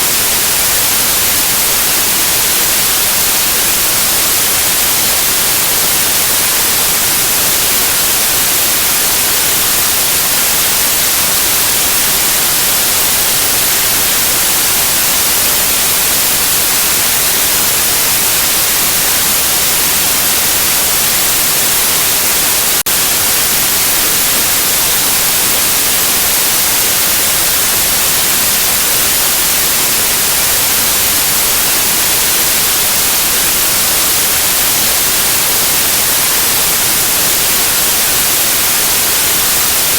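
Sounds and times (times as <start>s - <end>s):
electronic white noise hiss: 0.0s - 39.9s.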